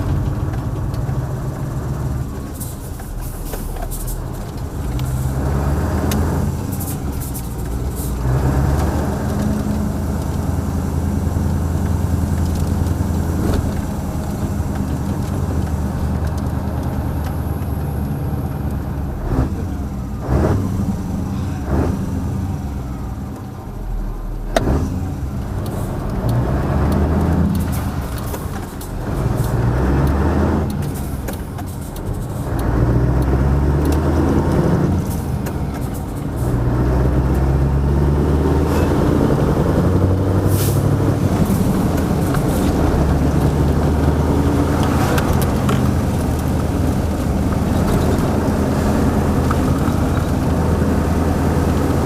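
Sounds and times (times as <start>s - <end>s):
truck diesel engine running: 0.0s - 52.0s.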